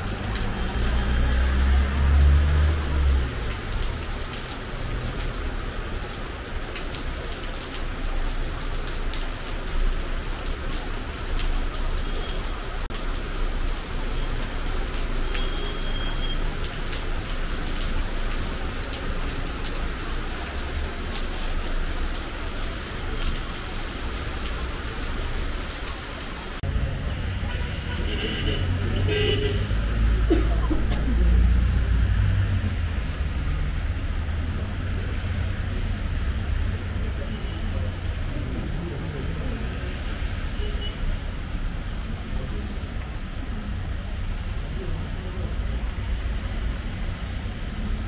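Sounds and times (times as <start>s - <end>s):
heavy rain falling: 0.0s - 48.0s
raindrops ticking on surfaces: 0.0s - 48.0s.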